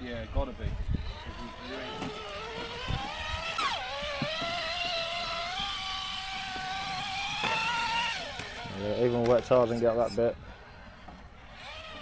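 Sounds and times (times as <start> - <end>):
toy car motor whining: 0.0 - 12.0.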